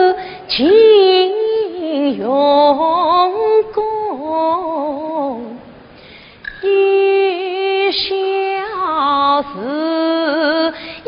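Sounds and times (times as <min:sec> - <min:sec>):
opera singing: 0:00.0 - 0:05.6, 0:06.6 - 0:11.0.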